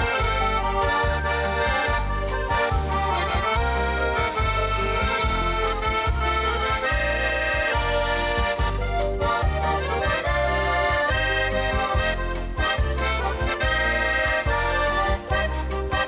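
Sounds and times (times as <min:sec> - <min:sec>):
accordion folk melody: 0:00.0 - 0:16.0.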